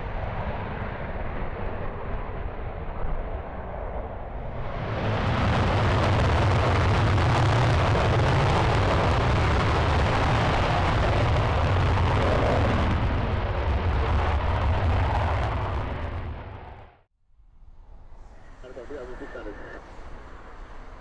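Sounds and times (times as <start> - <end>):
jet engine in afterburner: 0.0 - 17.1, 17.8 - 21.0.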